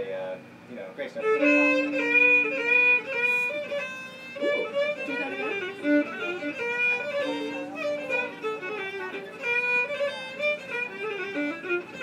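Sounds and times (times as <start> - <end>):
fiddle playing slow phrase: 1.2 - 12.0.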